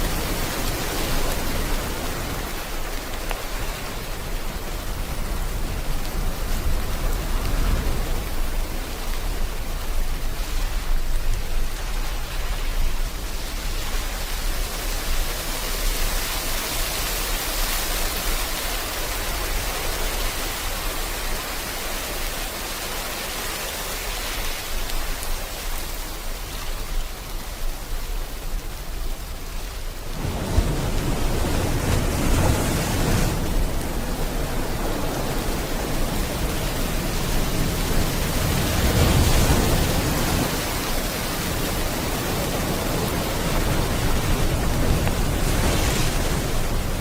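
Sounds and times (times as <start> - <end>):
rain hiss: 0.0 - 47.0
sea surf: 0.0 - 47.0.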